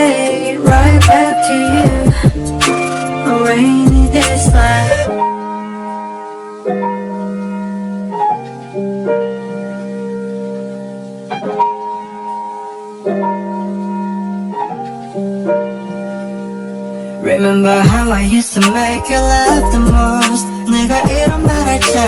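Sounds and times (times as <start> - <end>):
soft piano chords: 0.0 - 22.0.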